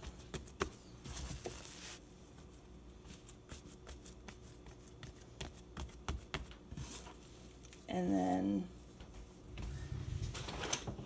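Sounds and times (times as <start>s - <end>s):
hands patting dough: 0.0s - 9.5s.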